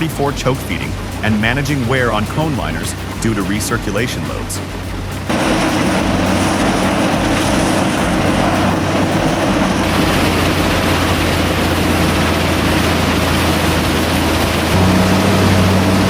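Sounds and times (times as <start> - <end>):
crushing plant machine noise: 0.0 - 16.0.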